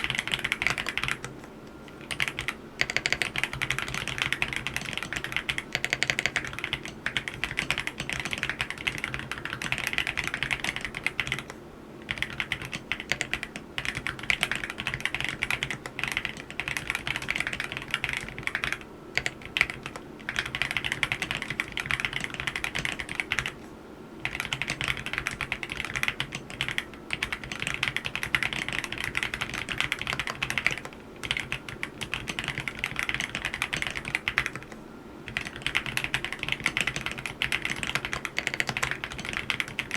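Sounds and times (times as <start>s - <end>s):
fast typing on mechanical keyboard: 0.0s - 1.4s, 2.0s - 23.6s, 24.2s - 39.9s.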